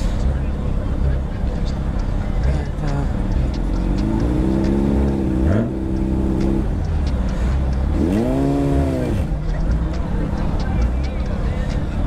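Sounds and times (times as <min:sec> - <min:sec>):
engine revving: 0:01.7 - 0:11.6.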